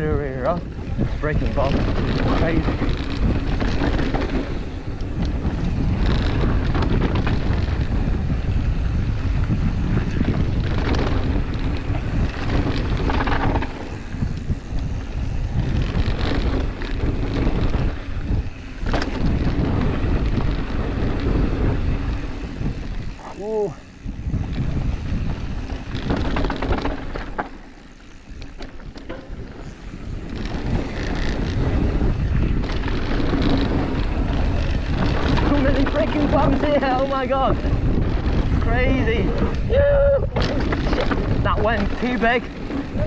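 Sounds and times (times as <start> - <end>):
mountain bike rattling: 0.0 - 43.0
wind buffeting microphone: 0.0 - 43.0.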